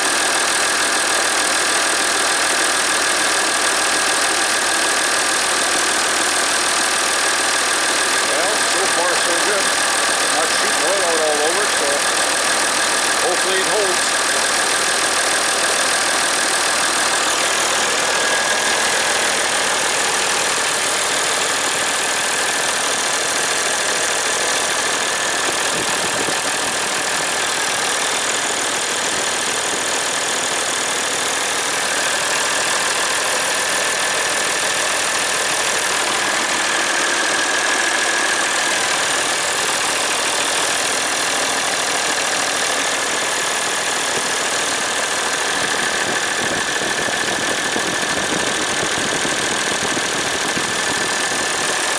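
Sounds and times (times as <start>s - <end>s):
tractor diesel engine idling: 0.0s - 51.9s.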